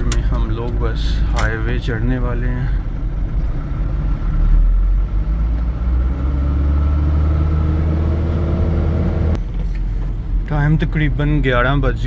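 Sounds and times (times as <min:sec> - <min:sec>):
truck engine rumble in cab: 0:00.0 - 0:12.0.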